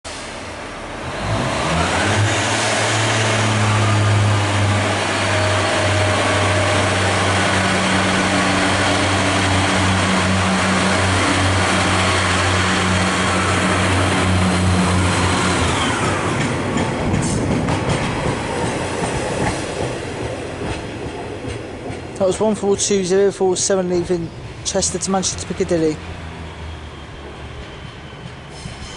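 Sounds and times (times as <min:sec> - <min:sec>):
diesel train engine: 0:00.0 - 0:28.9.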